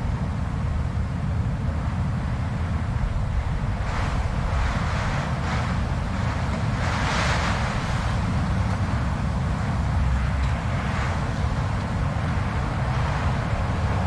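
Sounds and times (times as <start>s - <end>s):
blizzard wind with low rumble: 0.0s - 14.0s.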